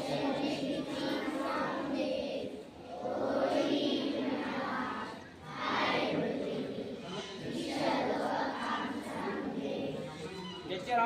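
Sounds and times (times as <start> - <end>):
children speaking in unison: 0.0 - 10.8.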